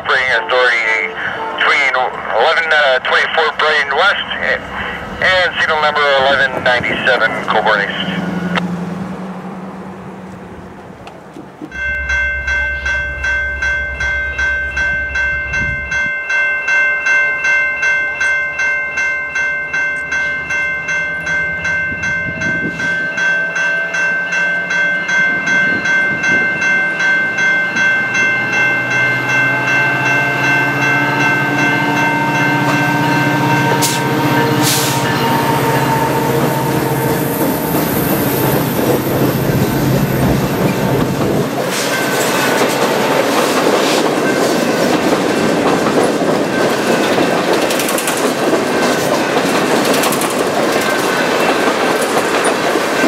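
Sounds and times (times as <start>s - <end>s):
locomotive bell ringing: 0.0s - 8.6s, 11.6s - 53.0s
locomotive engine rumble: 0.0s - 16.1s, 19.6s - 53.0s
train rolling past: 0.0s - 53.0s.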